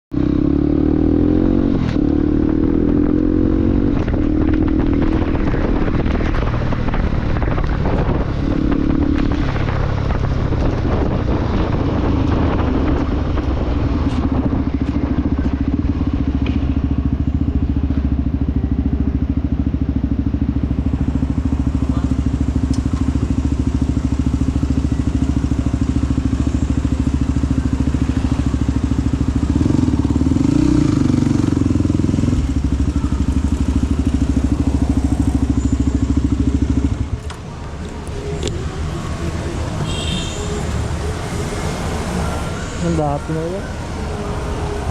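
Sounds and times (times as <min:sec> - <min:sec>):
motorcycle engine revving: 0:00.1 - 0:44.9.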